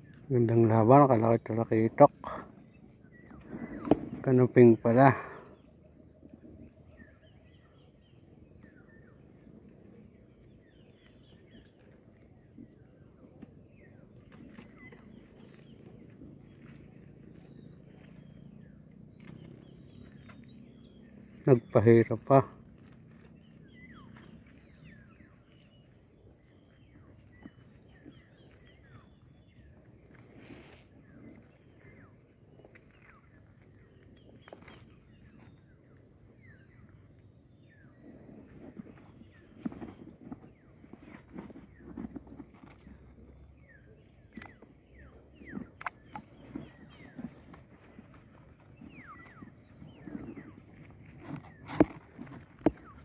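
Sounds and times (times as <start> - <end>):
faint birds chirping: 0.0 - 53.0
low outdoor rumble: 0.0 - 53.0.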